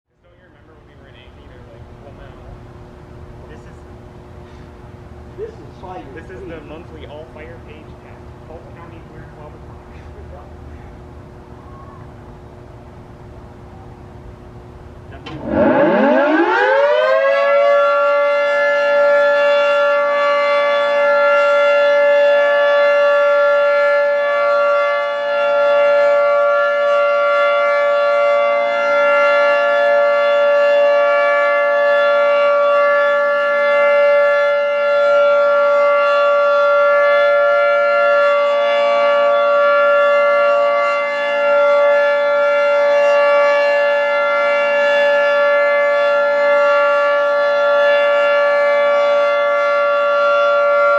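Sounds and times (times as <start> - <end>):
rotating warning siren: 0.1 - 50.9.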